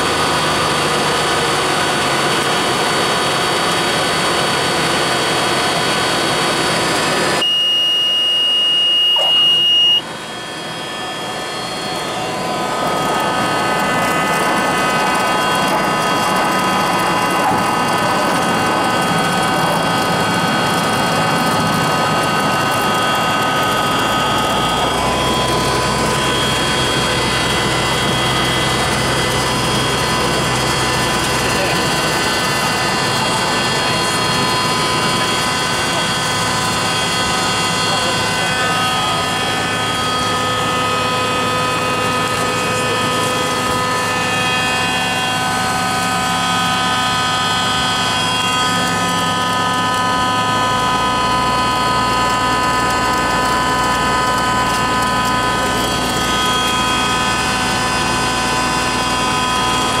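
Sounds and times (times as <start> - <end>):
high-pitched whine: 0.0 - 60.0
propeller aircraft engine running: 0.0 - 60.0.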